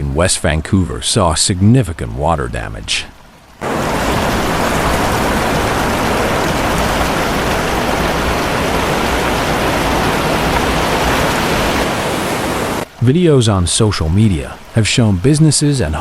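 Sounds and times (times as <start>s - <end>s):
rushing water: 0.9s - 16.0s.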